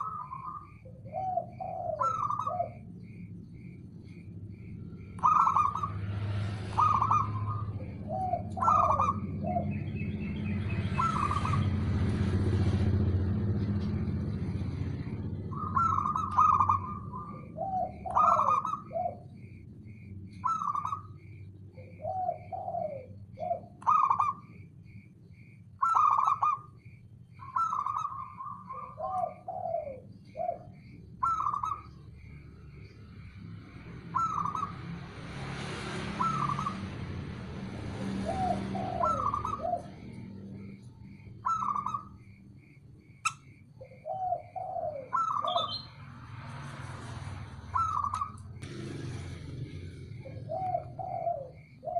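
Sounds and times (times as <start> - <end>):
dove cooing: 0.0 - 35.0, 36.0 - 51.9.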